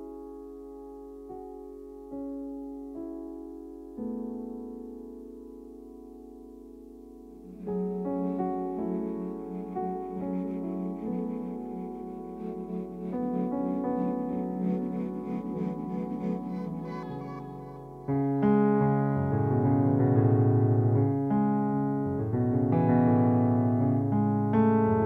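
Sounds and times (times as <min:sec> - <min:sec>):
slow ambient keyboard chords: 0:00.0 - 0:25.0.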